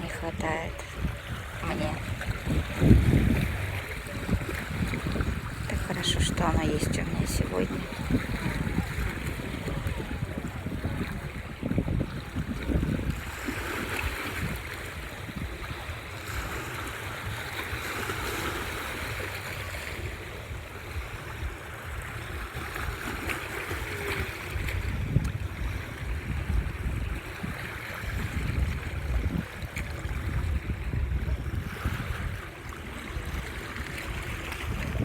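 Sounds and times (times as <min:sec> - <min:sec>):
sea waves washing onto shore: 0:00.0 - 0:35.0
wind buffeting microphone: 0:00.0 - 0:35.0.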